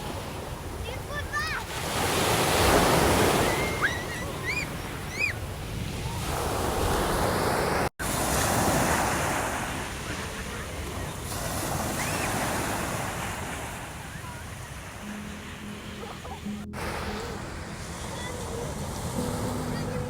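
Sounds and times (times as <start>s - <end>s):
sea waves breaking on beach: 0.0s - 20.0s.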